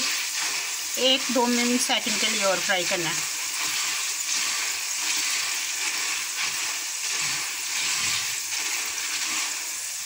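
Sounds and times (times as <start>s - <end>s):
lentils sizzling in hot oil: 0.0s - 10.0s
spatula stirring in strainer: 0.0s - 10.0s.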